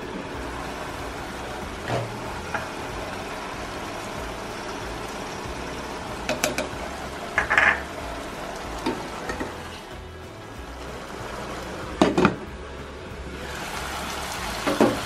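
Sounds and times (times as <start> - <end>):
stew simmering in pot: 0.0 - 15.0.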